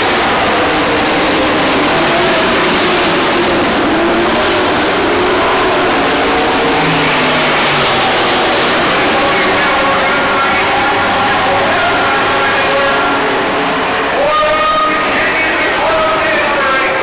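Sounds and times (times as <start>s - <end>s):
stock car engines racing: 0.0s - 17.0s.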